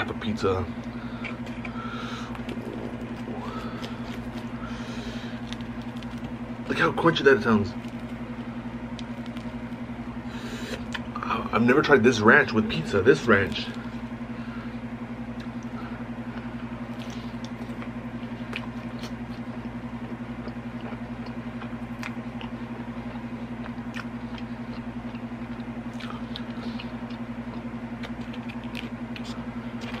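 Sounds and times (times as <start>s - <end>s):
steady low hum: 0.0s - 30.0s
person chewing food: 0.8s - 6.7s, 7.8s - 11.2s, 15.3s - 30.0s.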